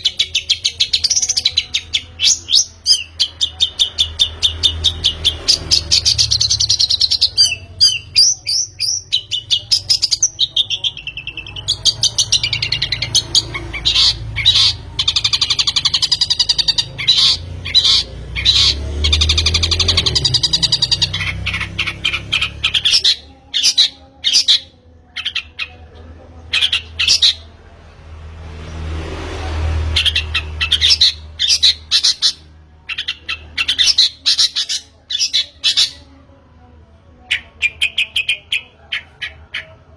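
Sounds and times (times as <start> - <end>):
bird harsh chattering song: 0.0 - 27.5, 30.0 - 36.1, 37.3 - 39.8.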